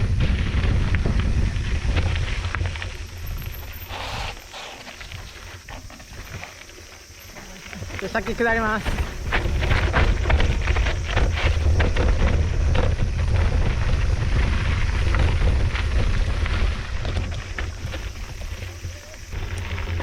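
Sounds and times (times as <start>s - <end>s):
bike clattering over bumps: 0.0s - 20.0s
wind rumbling on microphone: 0.0s - 20.0s.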